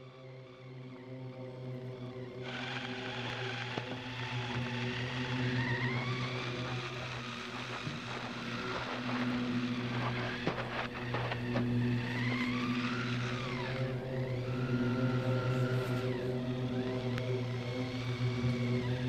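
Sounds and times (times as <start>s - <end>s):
rising whine: 0.0s - 19.0s
toy motor hum: 2.3s - 19.0s
track rushing on snow: 3.4s - 19.0s.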